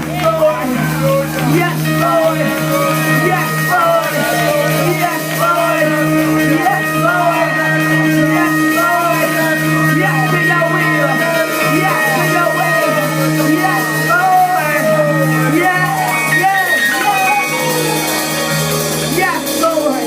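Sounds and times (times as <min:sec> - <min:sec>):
sustained organ chords: 0:00.0 - 0:20.0
voices singing and calling out: 0:00.0 - 0:20.0.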